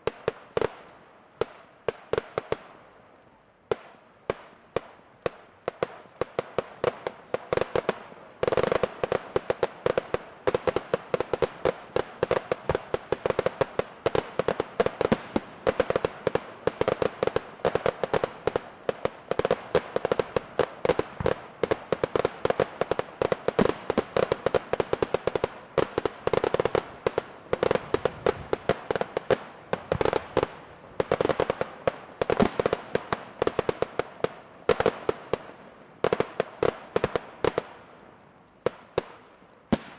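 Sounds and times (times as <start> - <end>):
fireworks bangs and crackles: 0.0 - 2.9, 3.7 - 39.9.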